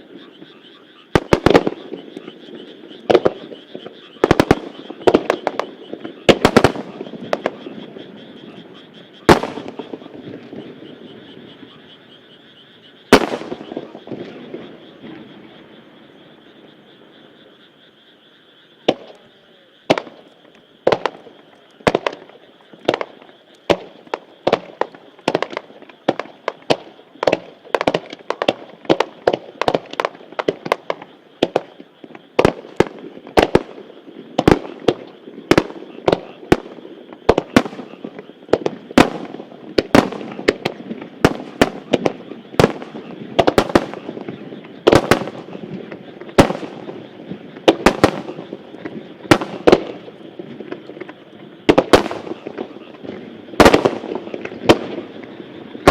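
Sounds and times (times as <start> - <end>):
fireworks bursting: 0.0 - 17.4, 18.8 - 55.9.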